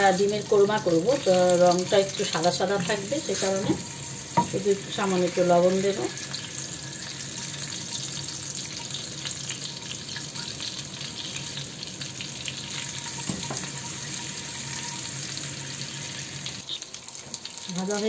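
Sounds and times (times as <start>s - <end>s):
eggs sizzling in oil: 0.0s - 18.0s.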